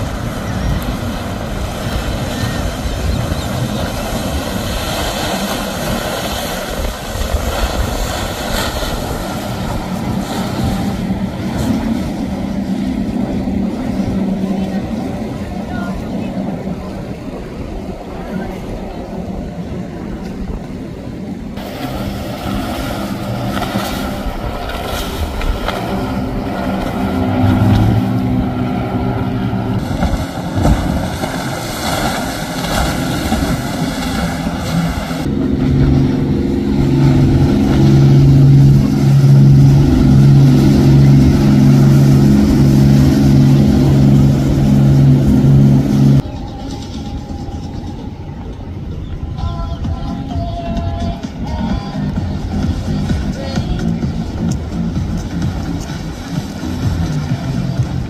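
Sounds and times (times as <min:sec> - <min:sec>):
motorboat engines running: 0:00.0 - 0:58.0.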